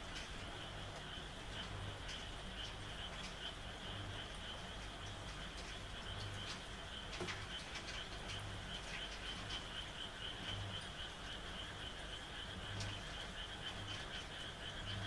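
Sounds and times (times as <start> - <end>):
deep frog croak: 0.0 - 15.0
frogs trilling: 0.0 - 15.0
light rain: 0.0 - 15.0.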